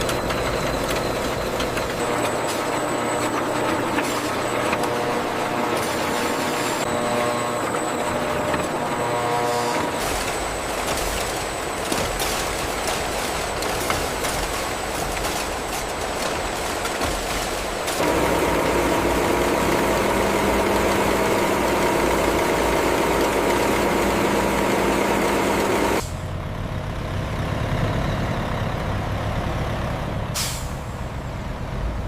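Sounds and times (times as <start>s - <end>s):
truck engine drone: 0.0s - 32.0s.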